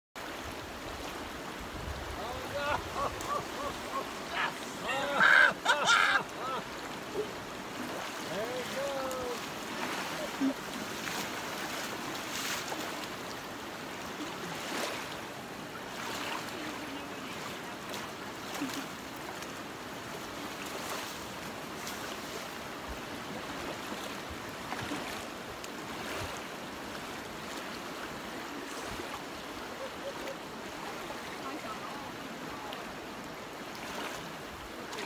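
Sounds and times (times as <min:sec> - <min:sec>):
river water rushing: 0:00.2 - 0:35.0.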